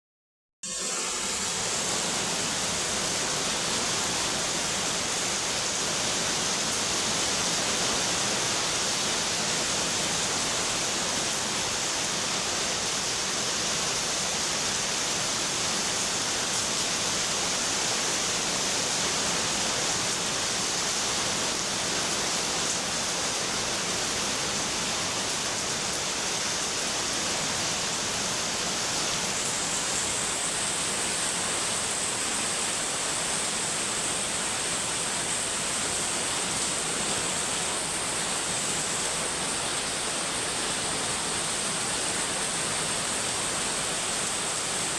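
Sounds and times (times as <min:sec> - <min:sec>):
rain falling: 0:01.2 - 0:44.9.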